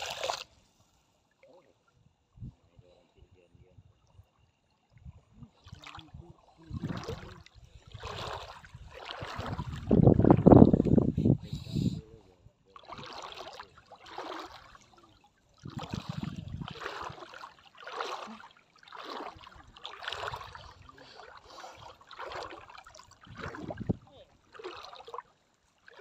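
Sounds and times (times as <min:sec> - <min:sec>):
water swishing and splashing: 0:00.0 - 0:02.4, 0:04.0 - 0:11.3, 0:12.7 - 0:26.0.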